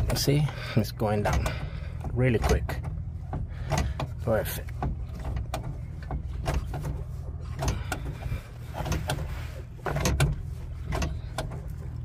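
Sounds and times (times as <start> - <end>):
brake pedal mechanical clunks: 0.0 - 12.0.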